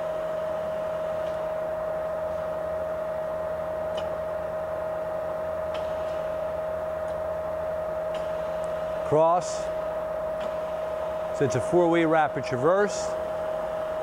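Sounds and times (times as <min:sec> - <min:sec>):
lathe machine whine: 0:00.0 - 0:14.0
low drive hum: 0:00.0 - 0:14.0.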